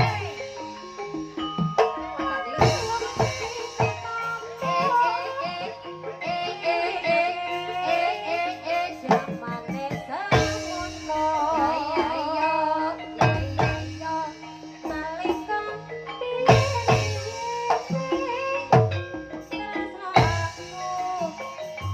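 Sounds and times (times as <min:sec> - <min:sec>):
woman singing: 0:00.0 - 0:01.1, 0:01.8 - 0:21.9
heavy drum strokes: 0:00.0 - 0:05.6, 0:09.0 - 0:21.9
pitched instrumental tones: 0:00.0 - 0:21.9.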